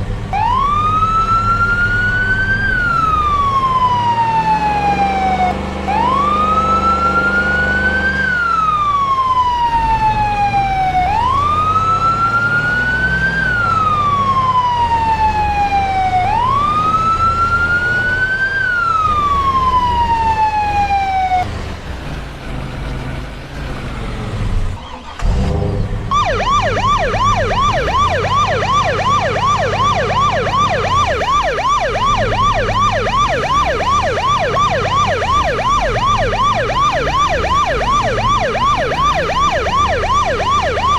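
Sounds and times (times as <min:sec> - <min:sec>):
emergency vehicle siren wailing: 0:00.0 - 0:21.8, 0:24.7 - 0:40.9
siren fast yelp: 0:00.4 - 0:21.4, 0:26.1 - 0:40.9.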